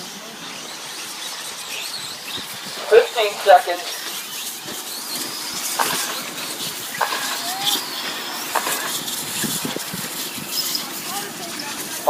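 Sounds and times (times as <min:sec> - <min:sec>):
rc truck motors hissing: 0:00.0 - 0:12.0.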